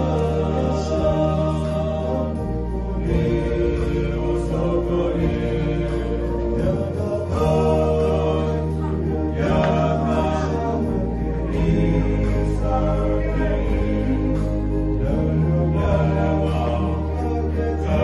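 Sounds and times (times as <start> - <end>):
group of voices chanting: 0.0 - 18.0
steady low tone: 0.0 - 18.0.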